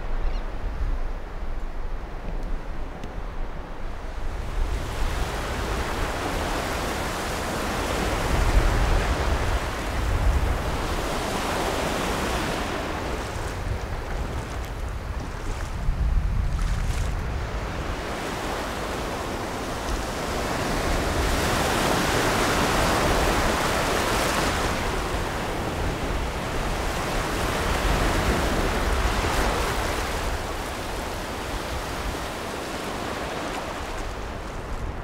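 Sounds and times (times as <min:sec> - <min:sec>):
small surf washing over beach: 0:04.1 - 0:35.0.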